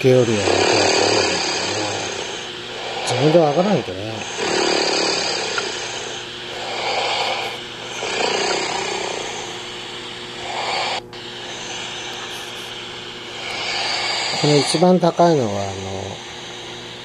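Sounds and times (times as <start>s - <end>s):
person snoring: 0.0s - 16.8s.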